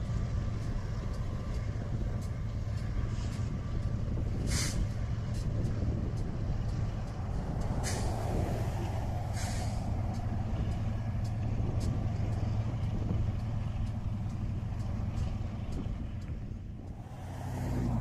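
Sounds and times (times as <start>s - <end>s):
locomotive engine drone: 0.0s - 18.0s.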